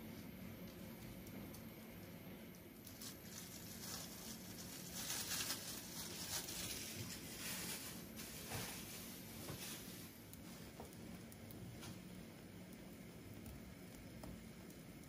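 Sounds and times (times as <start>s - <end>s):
low steady hum: 0.0s - 15.0s
omelette sizzling in a pan: 2.8s - 15.0s.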